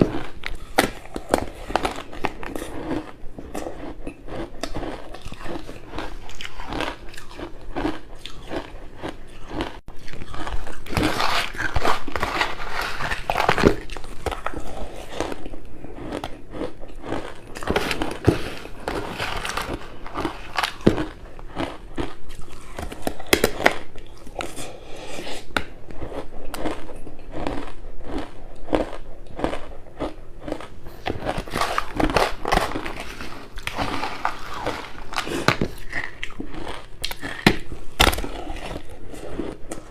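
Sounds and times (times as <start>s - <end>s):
crunching ice: 0.0s - 23.9s, 27.4s - 39.6s
chewing: 0.0s - 39.9s.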